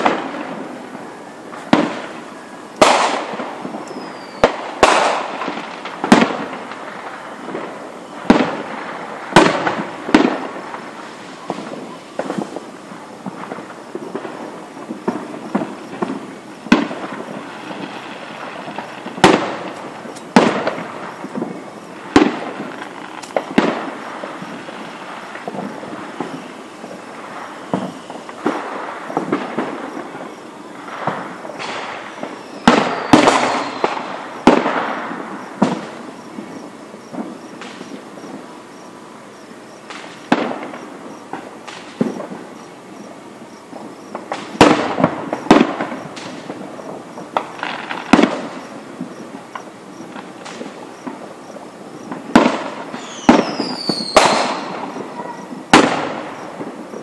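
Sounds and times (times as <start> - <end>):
falling firework whistle: 0.0 - 57.0
fireworks booming: 0.0 - 57.0
fireworks crackling: 0.0 - 57.0.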